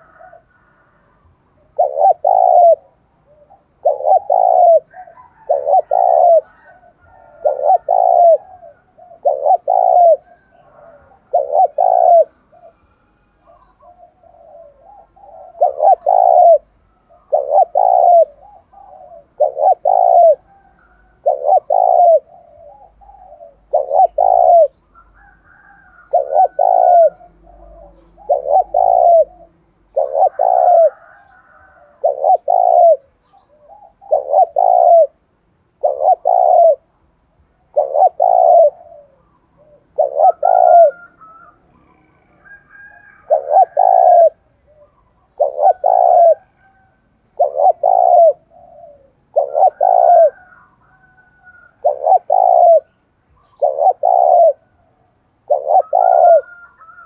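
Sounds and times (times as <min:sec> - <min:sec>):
dove cooing: 0:00.0 - 0:36.9, 0:37.5 - 0:57.0.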